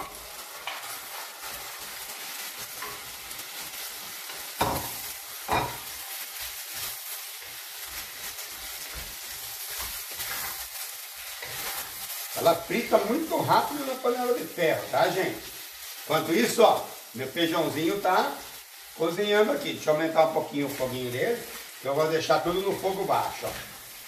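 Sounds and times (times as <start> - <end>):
meat sizzling in oil: 0.0 - 24.0.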